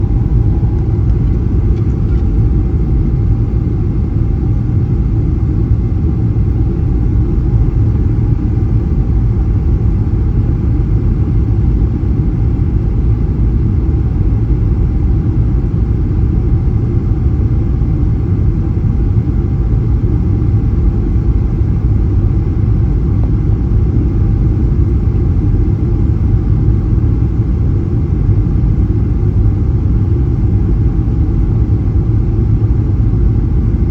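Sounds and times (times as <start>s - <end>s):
jet engines rumbling in cabin: 0.0s - 33.9s.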